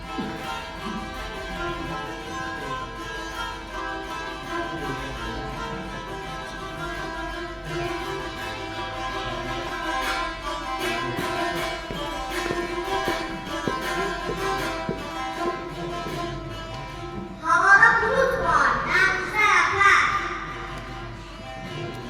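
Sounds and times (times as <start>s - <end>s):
plucked saz music: 0.0s - 22.0s.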